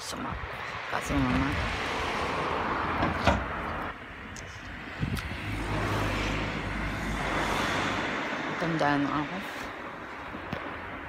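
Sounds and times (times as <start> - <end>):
car passing: 0.1 - 11.0.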